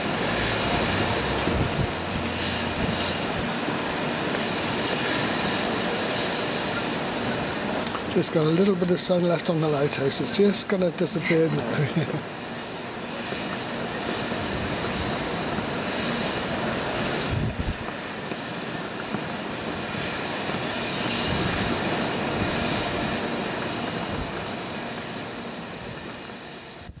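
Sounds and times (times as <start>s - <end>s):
distant rumble with hum: 0.0s - 27.0s.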